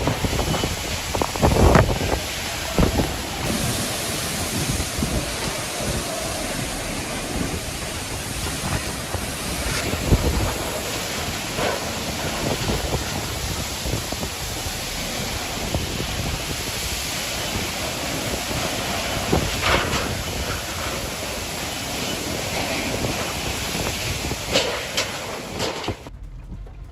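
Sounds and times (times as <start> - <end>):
wind and water rushing: 0.0 - 26.1.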